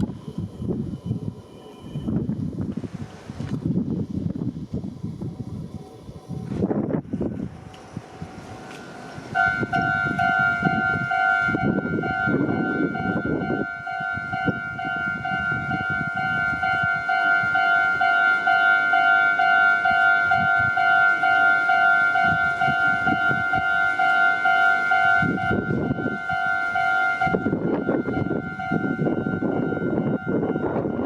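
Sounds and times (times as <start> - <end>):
level-crossing warning bell: 0.0 - 2.5, 8.1 - 31.0.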